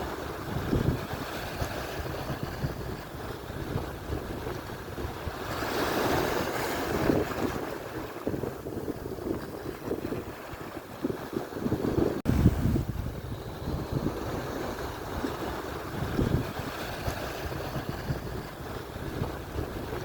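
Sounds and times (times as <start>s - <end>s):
surf breaking ashore: 0.0s - 20.0s
wind buffeting microphone: 0.0s - 20.0s.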